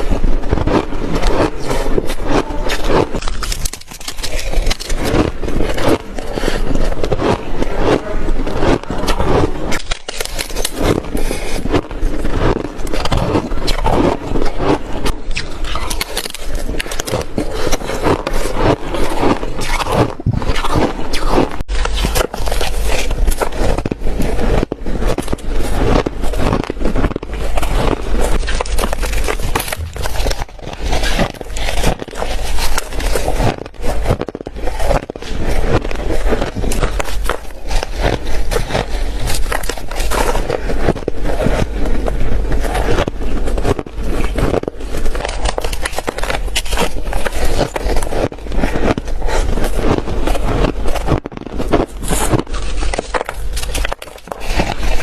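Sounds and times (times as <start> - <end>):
chewing shaved ice crunching: 0.0 - 55.0.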